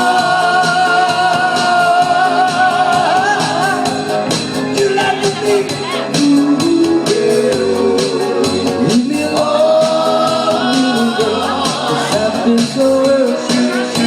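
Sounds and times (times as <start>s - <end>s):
steady percussive beat: 0.0s - 14.0s
vocal group singing in harmony: 0.0s - 14.0s.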